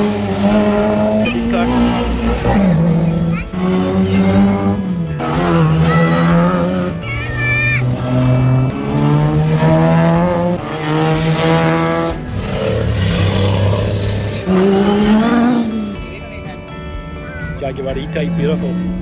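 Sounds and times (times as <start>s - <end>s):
car engines accelerating past: 0.0s - 19.0s.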